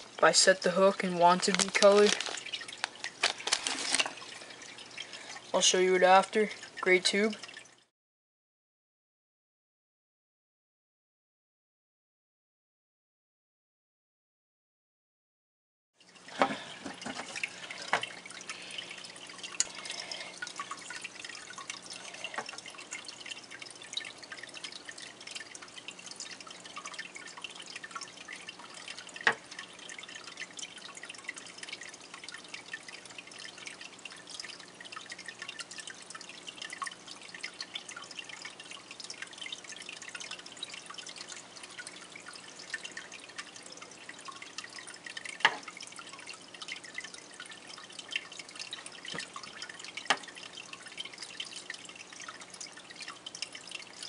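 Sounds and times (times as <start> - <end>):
aquarium bubbles and trickling: 0.0 - 7.9, 16.0 - 54.0.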